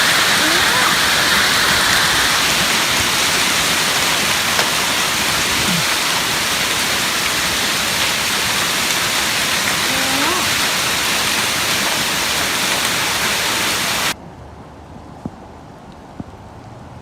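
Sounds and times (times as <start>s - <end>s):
heavy rain with hail: 0.0s - 14.2s.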